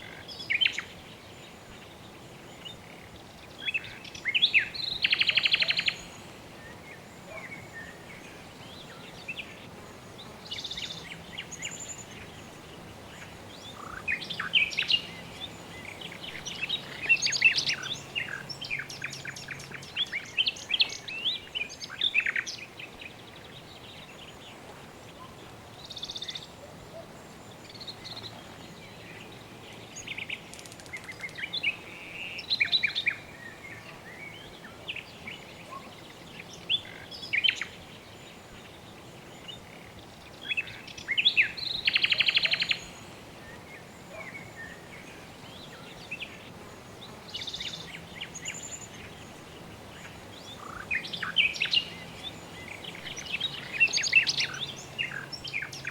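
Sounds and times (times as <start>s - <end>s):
soft background hiss: 0.0s - 55.9s.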